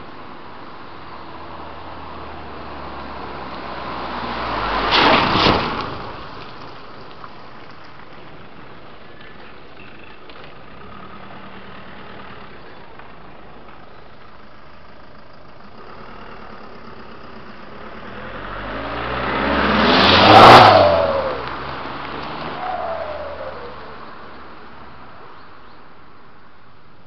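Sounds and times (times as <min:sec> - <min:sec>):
diesel car driving past: 0:01.2 - 0:07.2, 0:09.2 - 0:26.1.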